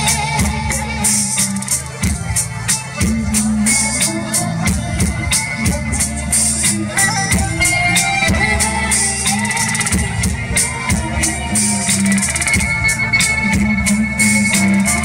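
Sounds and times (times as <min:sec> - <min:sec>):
deep bass line: 0:00.0 - 0:15.0
drum beat: 0:00.0 - 0:15.0.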